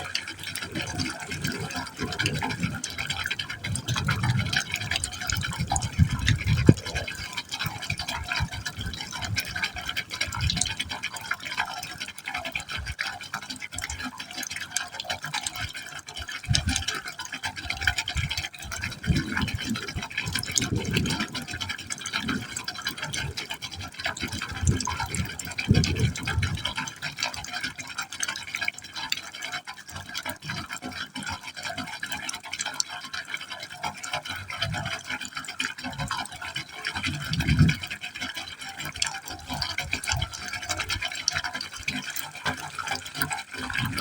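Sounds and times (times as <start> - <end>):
water pouring into a pipe: 0.0 - 44.0.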